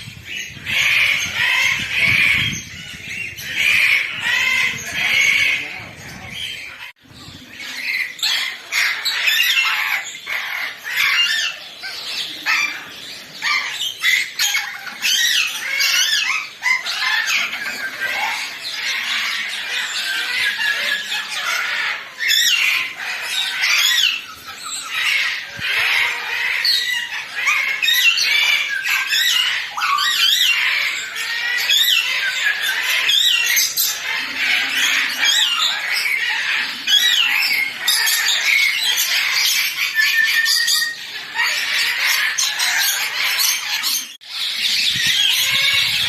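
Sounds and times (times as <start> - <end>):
many birds chirping and squawking: 0.0 - 46.0.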